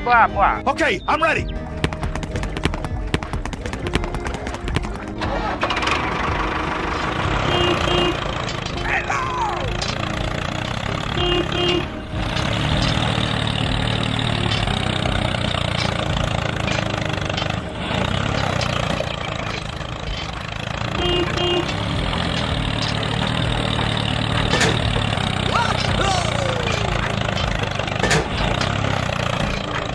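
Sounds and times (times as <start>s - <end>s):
diesel engine rumble: 0.0s - 29.9s.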